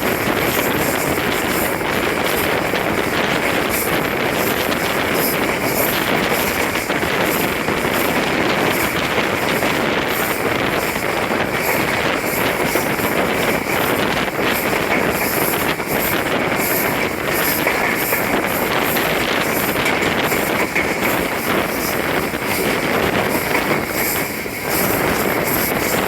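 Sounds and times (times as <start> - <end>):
train rushing along: 0.0 - 26.0
wind on microphone: 0.0 - 26.0.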